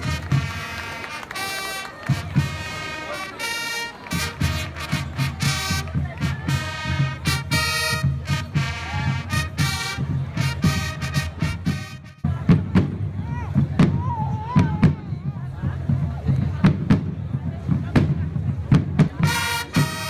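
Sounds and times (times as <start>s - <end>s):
field drums beating: 0.0s - 1.5s, 2.1s - 20.0s.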